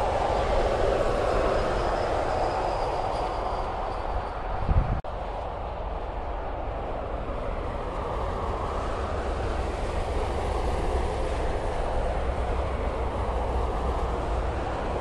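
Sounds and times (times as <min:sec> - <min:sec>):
highway traffic noise: 0:00.0 - 0:15.0.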